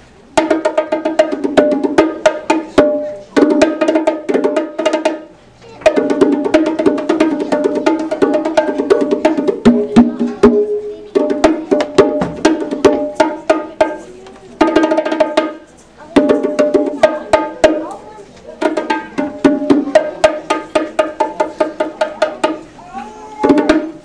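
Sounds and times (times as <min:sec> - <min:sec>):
bongo drums played by hand: 0:00.2 - 0:24.0.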